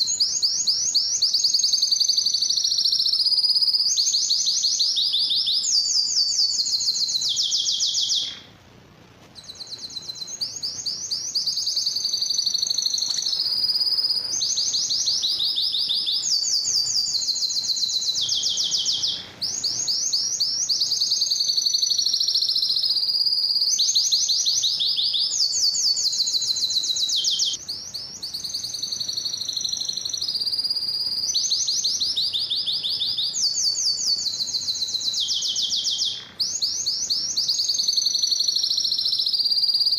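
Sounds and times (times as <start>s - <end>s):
canary singing trilled song: 0.0s - 8.6s, 9.3s - 39.9s.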